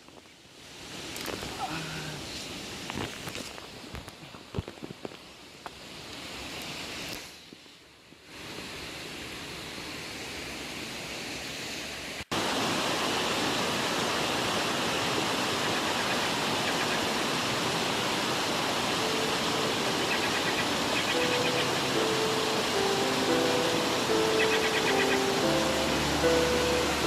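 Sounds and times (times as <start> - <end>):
stream and waterfall rushing: 0.4 - 3.9, 5.3 - 27.0.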